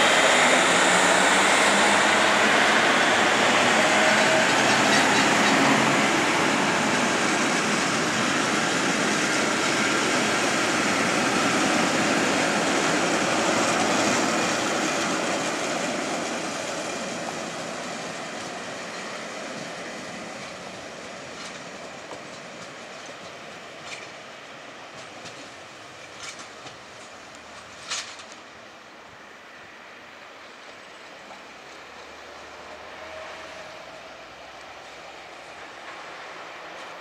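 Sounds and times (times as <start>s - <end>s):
train wheels rumbling on rails: 0.0s - 28.8s, 30.4s - 37.0s.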